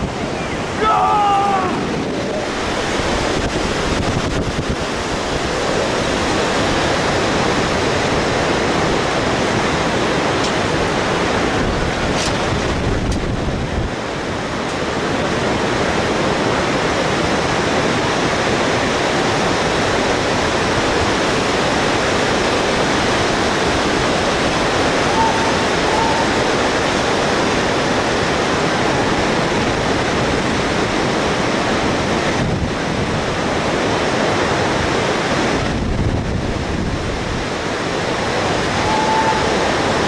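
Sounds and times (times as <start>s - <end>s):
whitewater river rushing: 0.0s - 40.0s
wind buffeting microphone: 0.0s - 40.0s.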